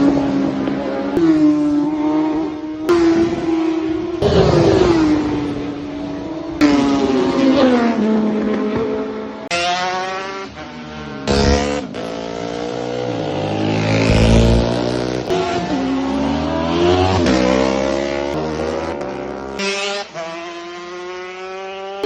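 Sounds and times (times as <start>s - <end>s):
racing motorcycles passing: 0.0s - 22.0s.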